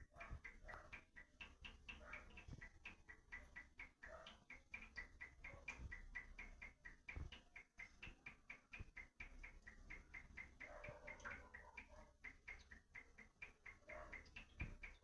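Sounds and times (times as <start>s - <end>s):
water drops ticking: 0.0s - 15.0s.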